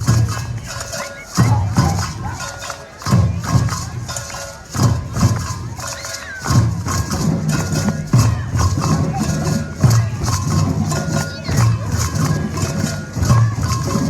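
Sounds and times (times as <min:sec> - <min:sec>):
shaken and struck hand percussion: 0:00.0 - 0:14.0.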